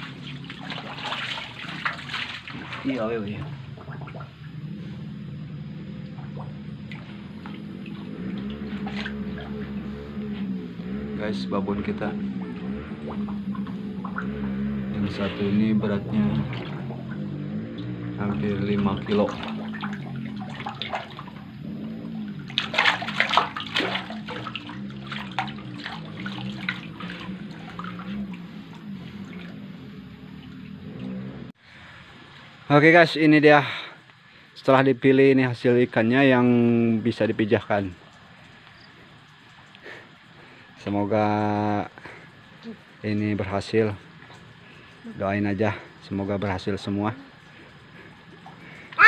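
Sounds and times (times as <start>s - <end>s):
small splashes: 0.0s - 4.8s, 5.7s - 31.5s, 35.9s - 49.0s
steady low hum: 0.0s - 49.0s
water dripping and lapping: 0.0s - 49.0s.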